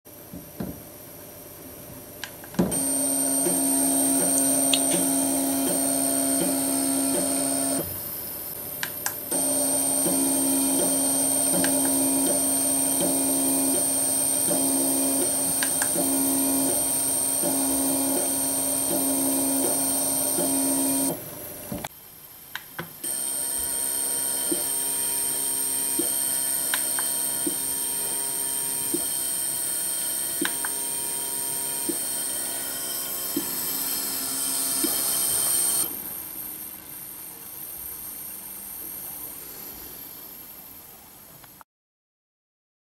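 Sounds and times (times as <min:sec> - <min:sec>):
stepper motor whine: 0:02.7 - 0:08.6, 0:09.3 - 0:21.2, 0:23.1 - 0:40.0.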